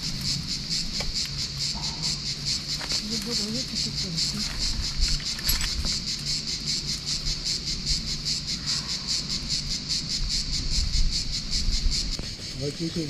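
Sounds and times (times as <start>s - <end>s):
cicadas singing: 0.0s - 13.0s.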